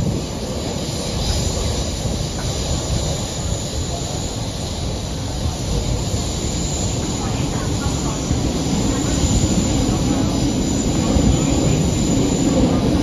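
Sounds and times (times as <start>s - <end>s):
hiss: 0.0s - 12.8s
train rumbling on track: 0.0s - 13.0s.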